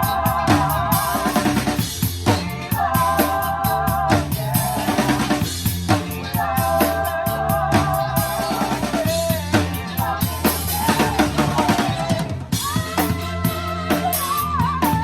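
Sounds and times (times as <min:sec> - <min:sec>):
band playing melody line: 0:00.0 - 0:15.0
drum kit groove: 0:00.0 - 0:15.0.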